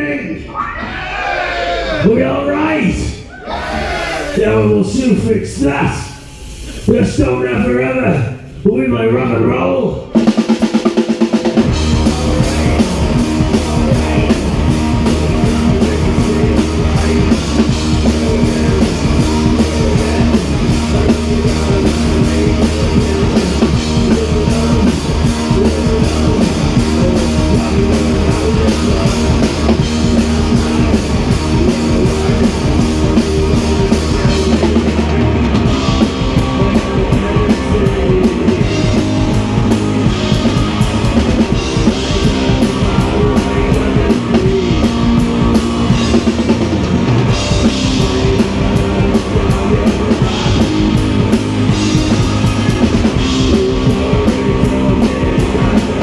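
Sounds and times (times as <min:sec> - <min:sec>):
drum kit beating fast rhythm: 0:04.1 - 0:08.9, 0:09.9 - 0:56.0
electric guitar: 0:10.1 - 0:56.0.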